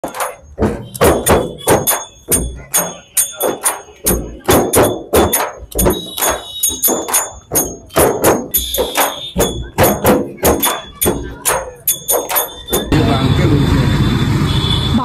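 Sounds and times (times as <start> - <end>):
frame drums beaten by hand: 0.0 - 13.0.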